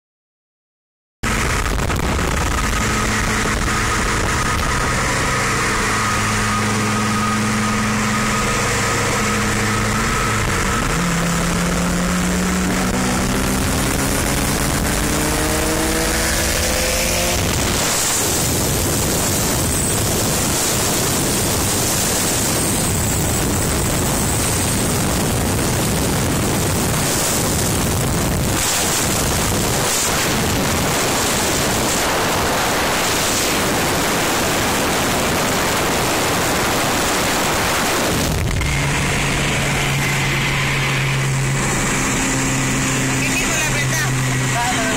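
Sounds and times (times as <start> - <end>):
car engines revving and accelerating: 1.2 - 44.9
loud steady rushing noise: 1.2 - 44.9.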